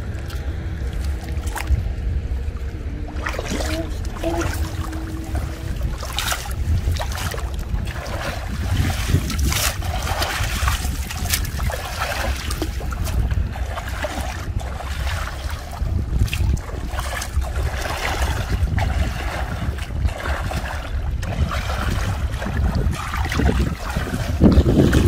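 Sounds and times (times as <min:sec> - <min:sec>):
muddy water splashing: 0:00.0 - 0:25.0
wind rumble on microphone: 0:00.0 - 0:25.0.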